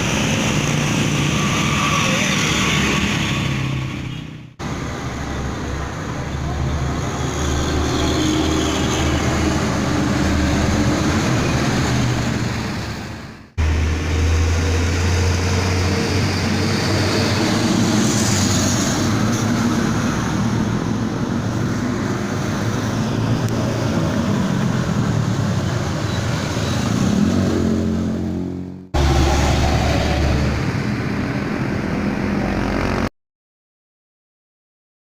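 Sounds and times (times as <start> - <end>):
traffic noise: 0.0 - 33.1
truck engine droning: 0.0 - 33.1.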